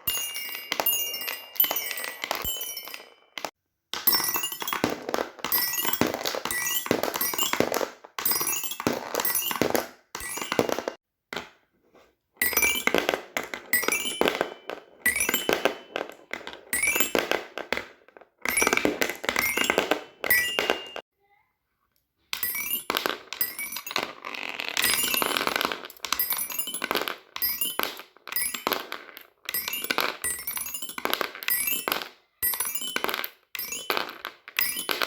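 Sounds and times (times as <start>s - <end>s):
fidget toys clicking and clinking: 0.0s - 11.0s, 12.4s - 21.0s, 21.9s - 35.0s.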